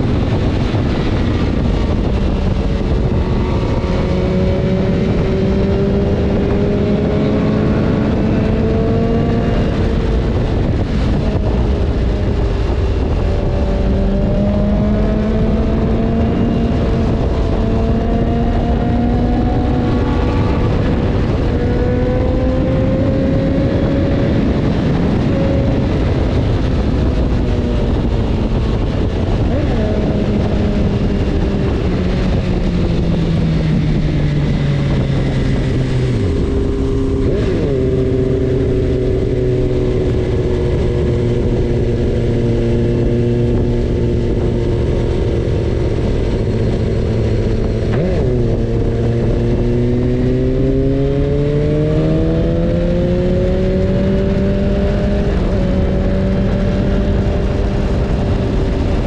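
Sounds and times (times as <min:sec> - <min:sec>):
motorcycle engine under way: 0:00.0 - 0:59.0
wind rush on microphone: 0:00.0 - 0:59.0.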